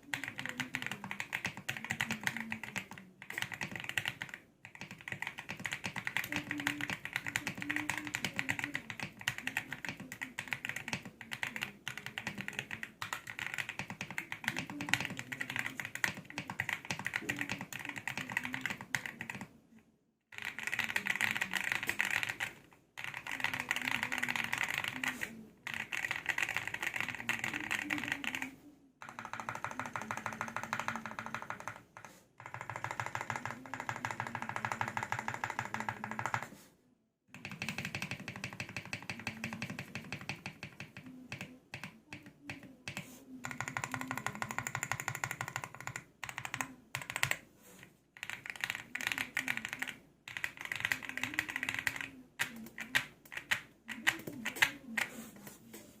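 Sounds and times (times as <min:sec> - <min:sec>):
fast typing on mechanical keyboard: 0:00.0 - 0:19.5, 0:20.4 - 0:36.5, 0:37.4 - 0:47.4, 0:48.2 - 0:55.1.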